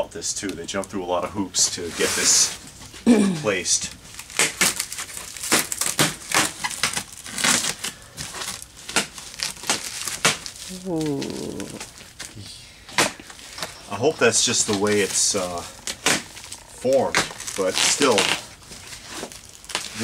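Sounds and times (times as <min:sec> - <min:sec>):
packing material crinkling: 0:00.7 - 0:20.0.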